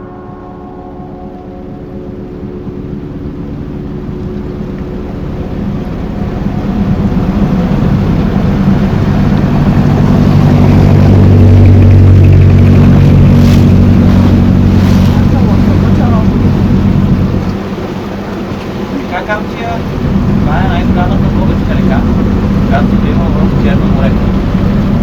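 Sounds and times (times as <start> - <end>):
motorboat engine running: 0.0 - 25.0
rushing water and wind: 0.0 - 25.0.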